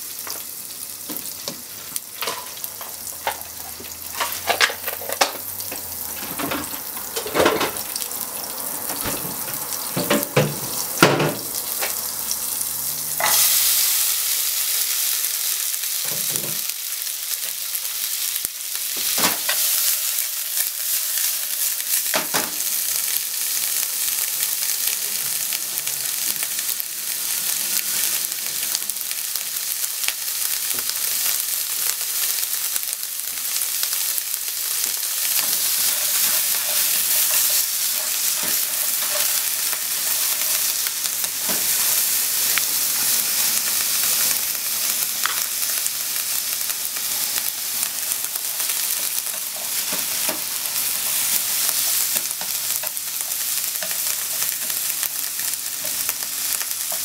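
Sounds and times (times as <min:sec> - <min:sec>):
onions sizzling in a pan: 0:00.0 - 0:57.0.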